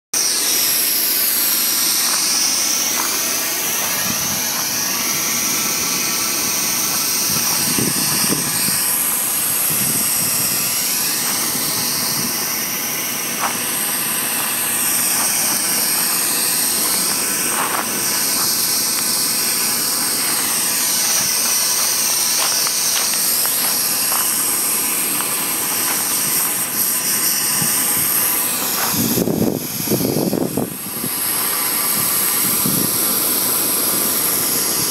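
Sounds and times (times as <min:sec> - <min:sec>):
weed torch flame hissing: 0:00.2 - 0:34.9.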